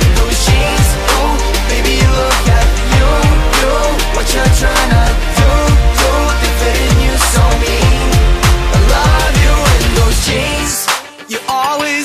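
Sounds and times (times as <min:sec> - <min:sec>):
pop song with deep bass: 0:00.0 - 0:12.0.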